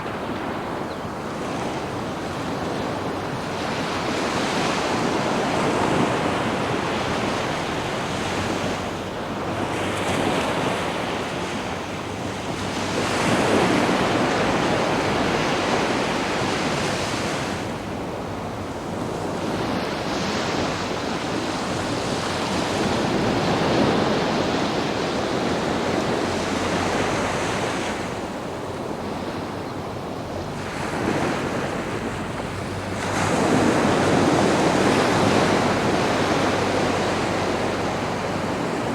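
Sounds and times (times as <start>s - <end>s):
sea waves washing onto beach: 0.0s - 38.9s
wind: 0.0s - 38.9s.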